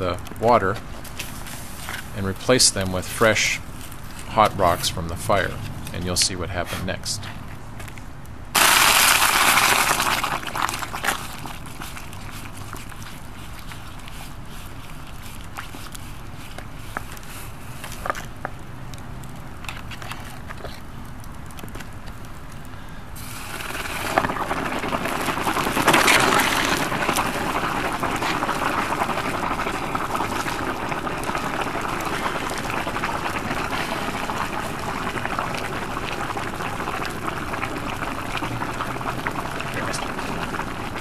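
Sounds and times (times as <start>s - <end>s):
water hissing and bubbling boil: 0.0s - 7.9s, 8.5s - 41.0s.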